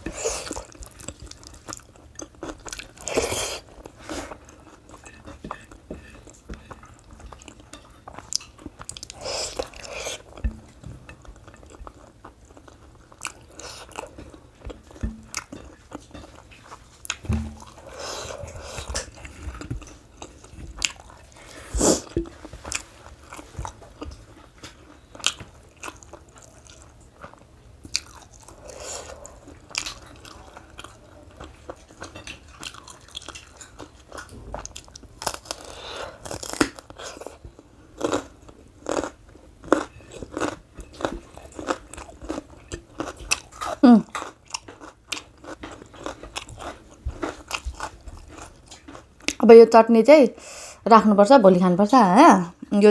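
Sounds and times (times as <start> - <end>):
person chewing crunchy food: 0.0 - 49.4.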